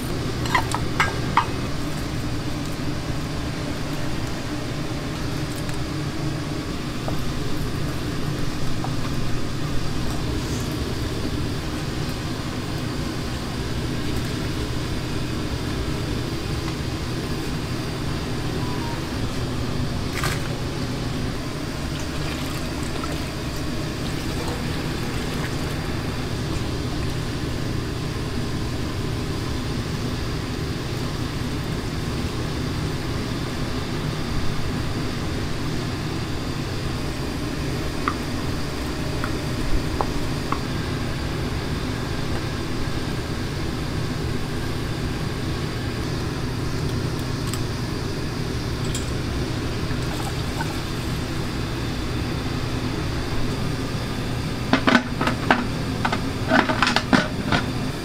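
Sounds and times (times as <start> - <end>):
low kitchen rumble: 0.0 - 58.0.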